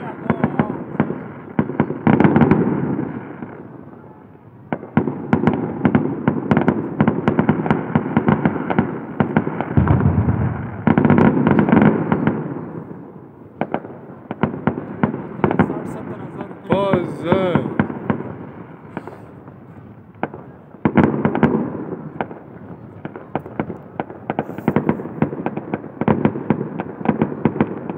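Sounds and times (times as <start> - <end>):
fireworks bangs and pops: 0.0 - 4.0, 4.6 - 27.9.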